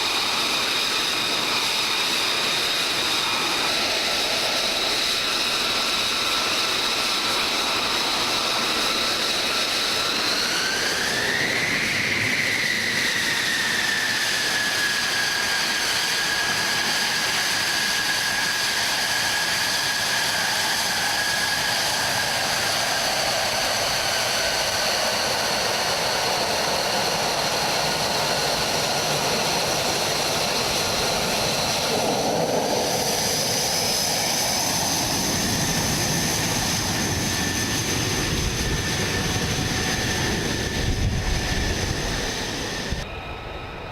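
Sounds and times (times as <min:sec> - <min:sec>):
jet engine roar with whine: 0:00.0 - 0:43.9.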